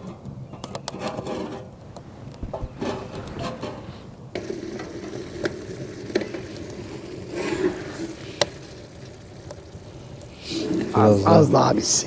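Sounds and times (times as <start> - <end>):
light sizzle: 0.0 - 12.0
utensil scraping cooking pan: 0.8 - 11.8.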